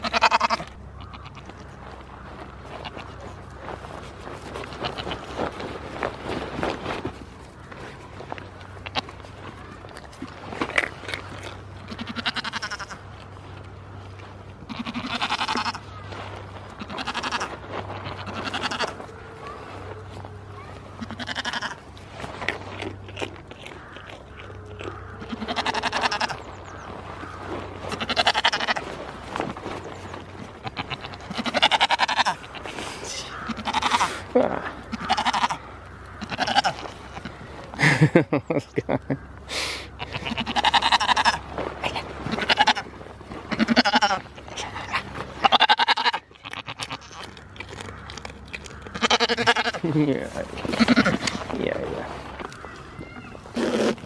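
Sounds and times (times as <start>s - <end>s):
goats bleating: 0.0s - 38.1s, 39.0s - 54.0s.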